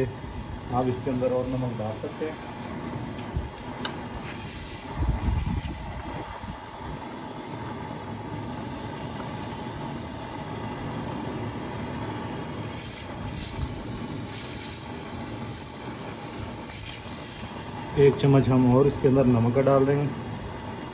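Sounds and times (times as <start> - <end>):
gas fire hissing: 0.0 - 20.9
rice boiling in broth: 0.0 - 20.9.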